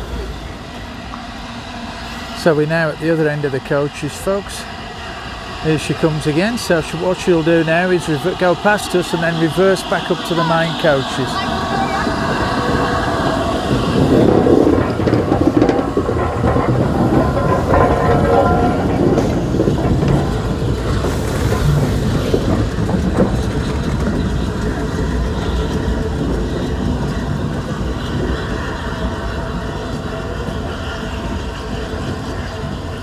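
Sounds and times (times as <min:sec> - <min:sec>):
steam locomotive passing slowly: 0:00.0 - 0:33.0
wheels clicking over rail joints: 0:05.7 - 0:33.0.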